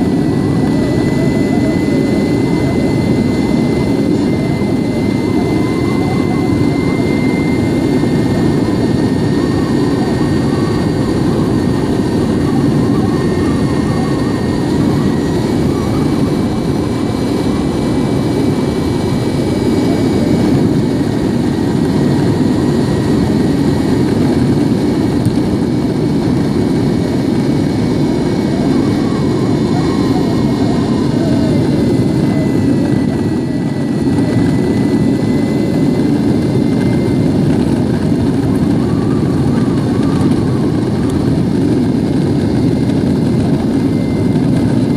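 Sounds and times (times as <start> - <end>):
high electric motor whine: 0.0 - 44.9.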